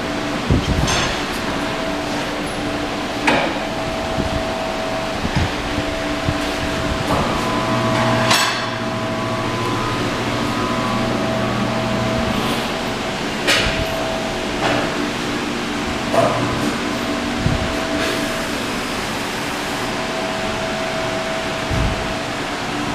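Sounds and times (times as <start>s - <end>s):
machinery hum: 0.0s - 22.9s.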